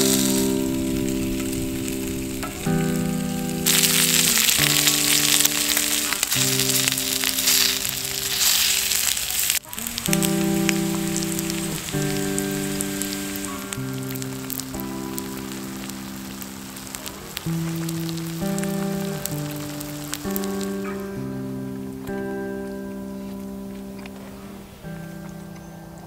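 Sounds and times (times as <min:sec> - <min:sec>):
gentle background music chords: 0:00.0 - 0:08.0, 0:09.6 - 0:26.0
sizzling crackling hiss: 0:00.0 - 0:25.6.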